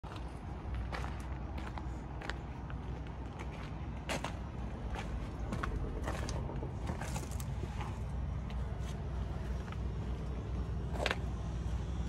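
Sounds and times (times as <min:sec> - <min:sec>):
steady low rumble: 0:00.0 - 0:12.0
footsteps crunching on gravel: 0:00.1 - 0:09.9.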